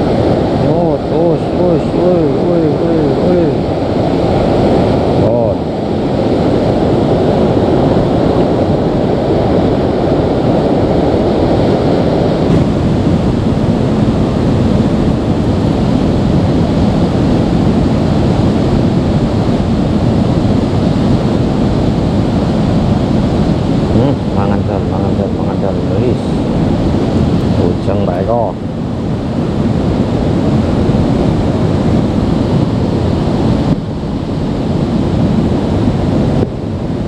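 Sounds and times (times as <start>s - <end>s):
river rushing over rapids: 0.0s - 37.0s.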